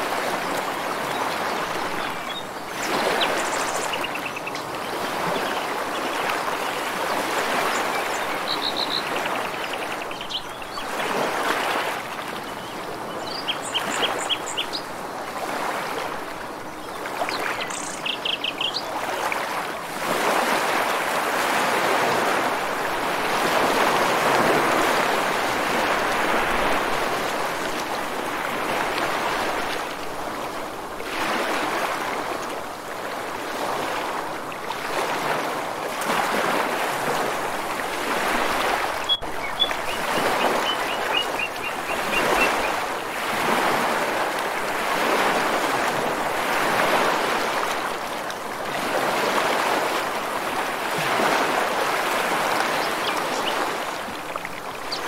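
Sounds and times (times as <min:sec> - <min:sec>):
ocean surf washing ashore: 0:00.0 - 0:55.0.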